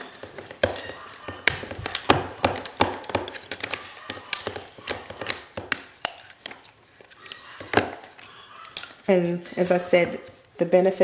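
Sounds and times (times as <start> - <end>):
utensil stirring cream in plastic tub: 0.0 - 11.0.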